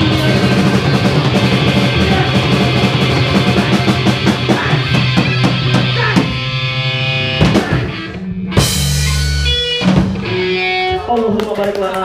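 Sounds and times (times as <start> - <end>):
drum kit and cymbal hits: 0.0 - 10.7
electric guitars ringing chords: 0.0 - 11.2.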